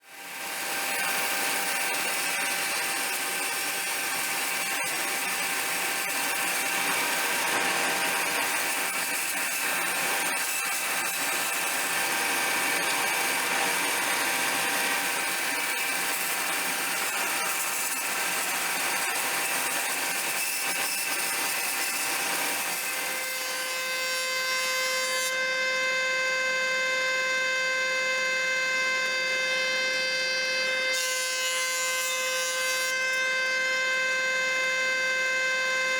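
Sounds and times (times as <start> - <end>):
power tool cutting wood: 0.0 - 35.9.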